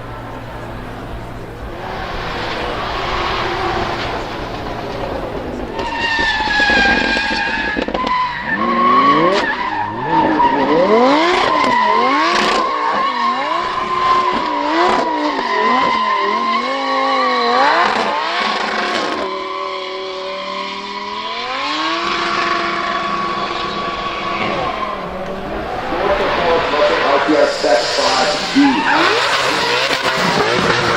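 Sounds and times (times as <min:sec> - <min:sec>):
car engine revving: 0:00.0 - 0:30.9
tyre squeal: 0:01.8 - 0:30.9.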